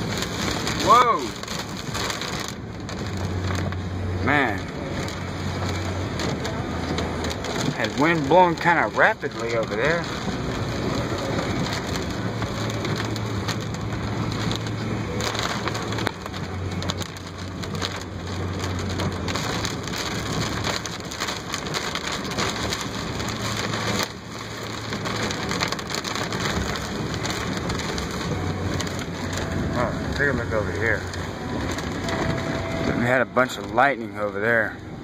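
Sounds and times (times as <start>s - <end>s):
heavy rain on car: 0.0s - 35.0s
low car hum: 0.0s - 35.0s
tyres hissing on wet road: 0.0s - 35.0s.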